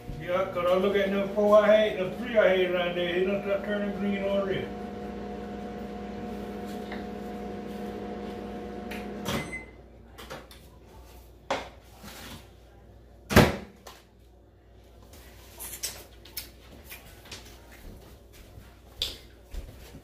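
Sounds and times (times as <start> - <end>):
appliance electrical hum: 0.0 - 20.0.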